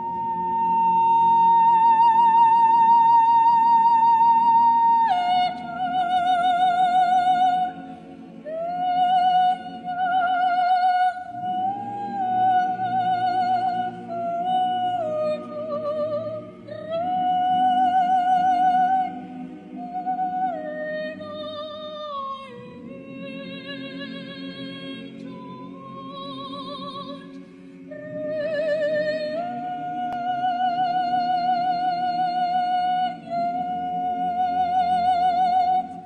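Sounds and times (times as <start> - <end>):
soprano singing operatic notes: 0.0 - 27.3, 27.9 - 36.0
choir holding soft chords: 0.0 - 36.0.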